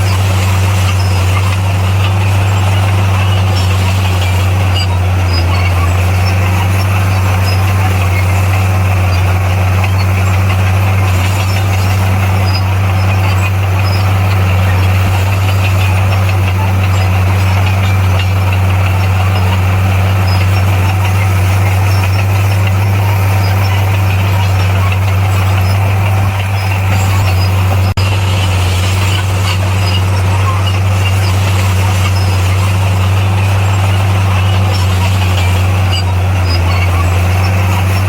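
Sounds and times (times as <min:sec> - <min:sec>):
diesel engine droning: 0:00.0 - 0:38.0
noisy clatter: 0:00.0 - 0:38.0.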